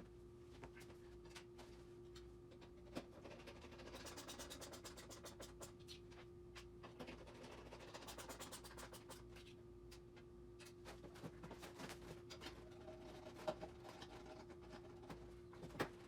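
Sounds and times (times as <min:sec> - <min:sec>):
steady faint hum: 0:00.0 - 0:16.0.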